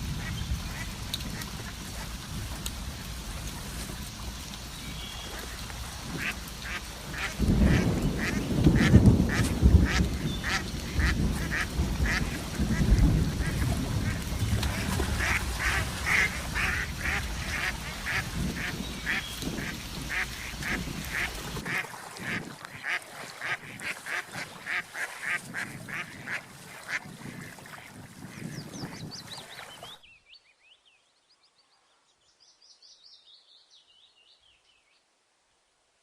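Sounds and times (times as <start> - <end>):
waterfowl calling: 0.0 - 30.0.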